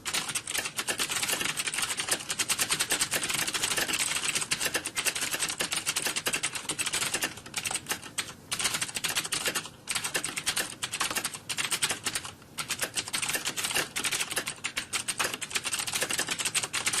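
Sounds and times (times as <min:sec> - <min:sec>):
fast keyboard typing: 0:00.0 - 0:17.0.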